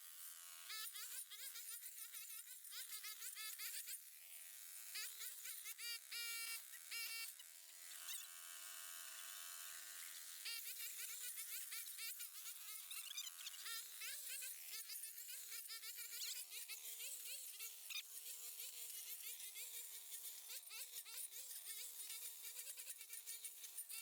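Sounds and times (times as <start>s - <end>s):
small engine buzzing: 0.1s - 24.0s.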